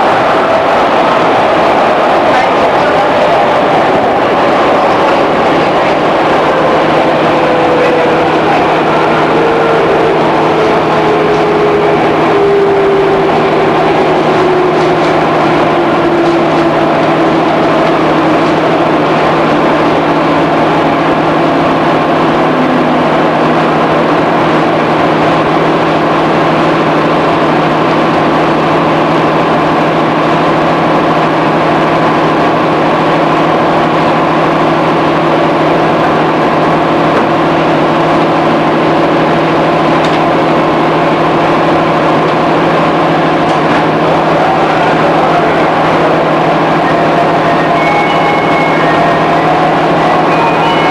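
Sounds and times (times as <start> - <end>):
train motor and gear hum: 0.0 - 50.9
wheel-on-rail rumble: 0.0 - 50.9.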